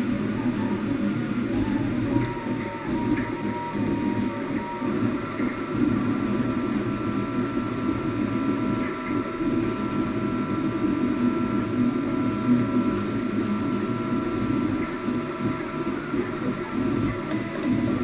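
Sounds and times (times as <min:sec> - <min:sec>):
printer hum: 0:00.0 - 0:18.0.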